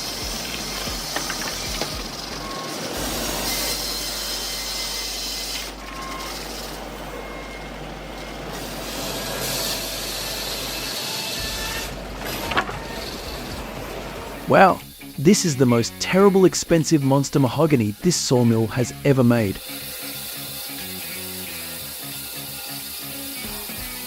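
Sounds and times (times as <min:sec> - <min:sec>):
sawmill saw and motor noise: 0:00.0 - 0:24.0.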